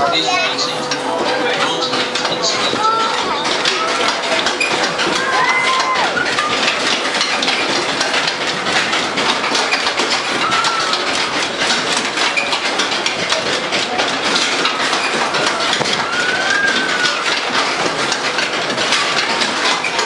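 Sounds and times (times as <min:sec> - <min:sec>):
fairground ride cars rattling: 0:00.0 - 0:20.0.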